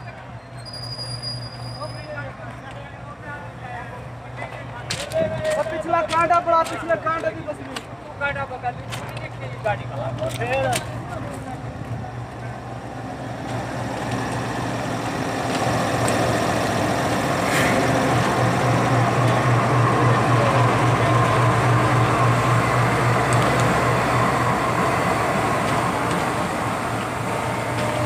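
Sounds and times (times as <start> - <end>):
diesel locomotive engine idling: 0.0 - 28.0.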